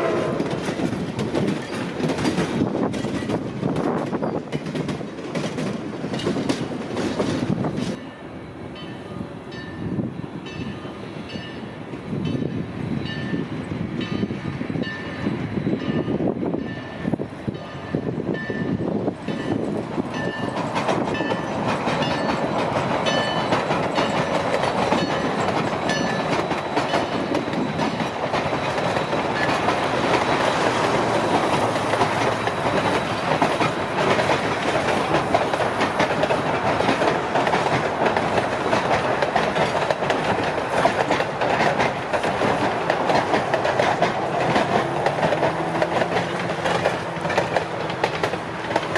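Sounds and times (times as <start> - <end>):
train wheels clattering over rails: 0.0 - 8.0, 10.5 - 48.9.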